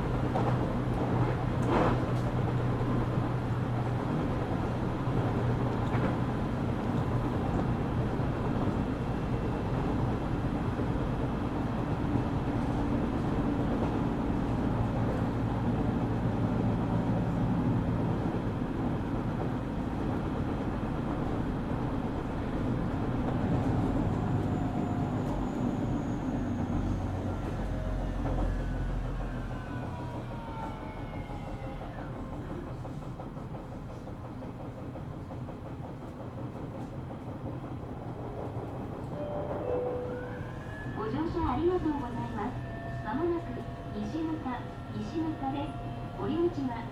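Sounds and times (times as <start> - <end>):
train motor and rail noise: 0.0 - 46.9.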